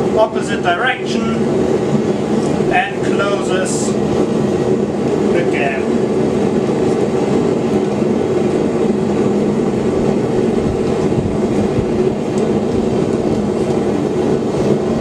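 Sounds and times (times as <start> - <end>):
forge rushing hum: 0.0 - 15.0.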